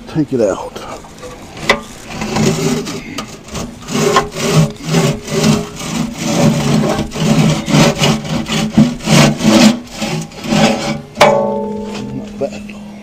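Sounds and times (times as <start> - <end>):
steel scraping against steel: 0.8 - 12.9.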